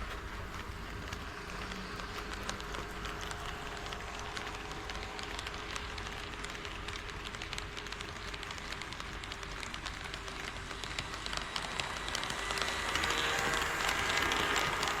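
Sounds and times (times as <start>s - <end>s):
model train rolling with clicks: 0.0s - 15.0s.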